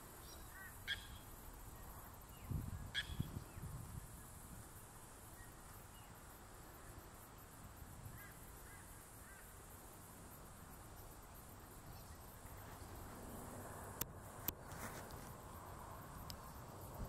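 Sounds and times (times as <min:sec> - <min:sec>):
faint steady high hiss: 0:00.0 - 0:17.0.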